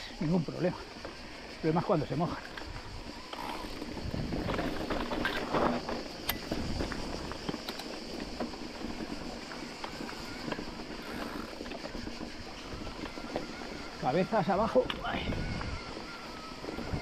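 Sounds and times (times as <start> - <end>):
bike rattling over roots: 0.0 - 17.0
cicadas hissing: 0.0 - 17.0.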